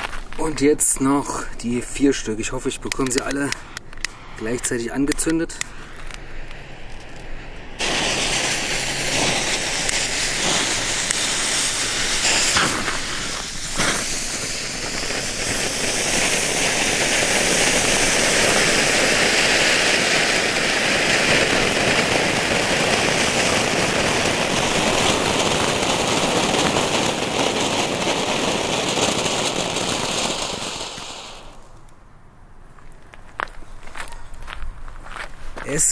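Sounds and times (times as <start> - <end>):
firework fountains hissing: 2.5 - 31.8
firework cracks: 2.5 - 32.0.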